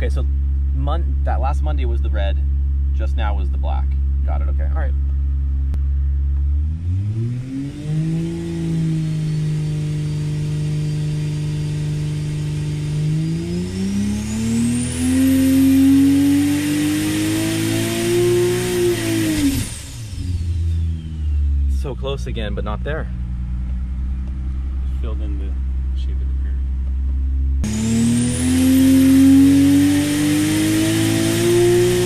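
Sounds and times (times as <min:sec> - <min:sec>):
engine revving: 0:00.0 - 0:04.9, 0:05.6 - 0:32.0
turbo whine: 0:00.0 - 0:32.0.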